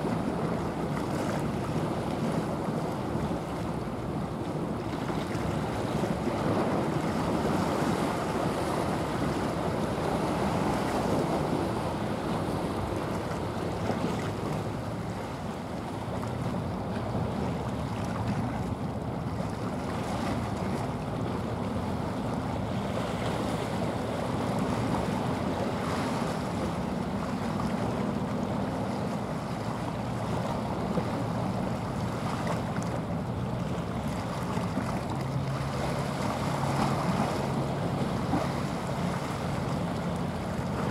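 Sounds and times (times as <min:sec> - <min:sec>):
low boat engine hum: 0:00.0 - 0:40.9
water washing along shore: 0:00.0 - 0:40.9.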